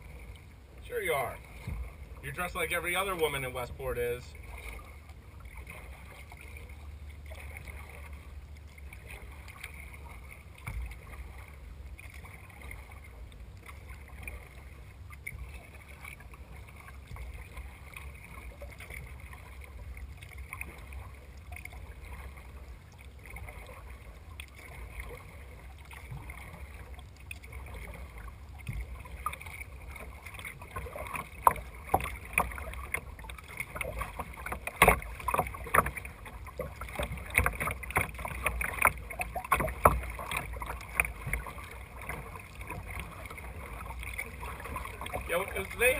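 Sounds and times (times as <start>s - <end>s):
kayak paddle strokes: 0.0s - 45.9s
water splashing against hull: 0.0s - 45.9s.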